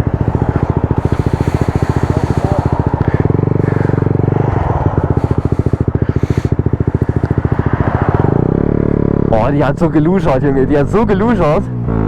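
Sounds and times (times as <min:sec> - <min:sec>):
motorcycle engine exhaust beat: 0:00.0 - 0:12.0.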